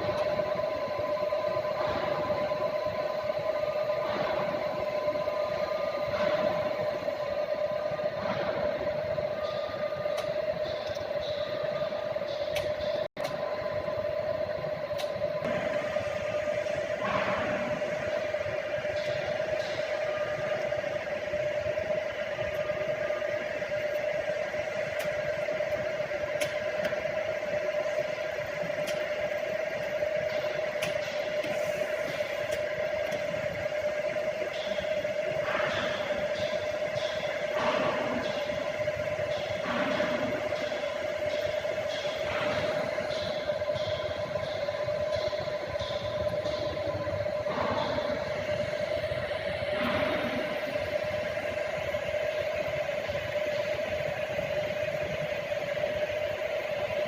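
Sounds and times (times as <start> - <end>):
milling machine whining: 0.0 - 57.0.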